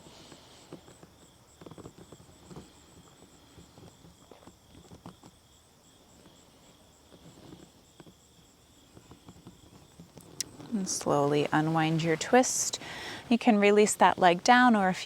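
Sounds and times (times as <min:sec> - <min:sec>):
soft clicks and rustles: 0:00.0 - 0:05.4, 0:06.2 - 0:15.0.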